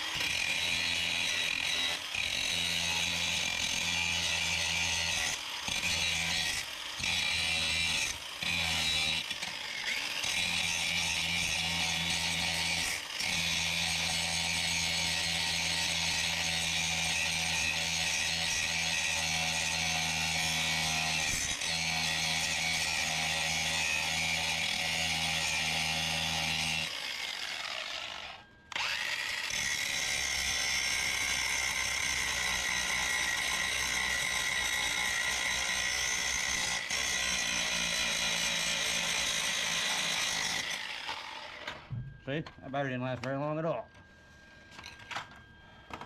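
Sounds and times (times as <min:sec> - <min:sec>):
angle grinder grinding metal: 0:00.0 - 0:43.7.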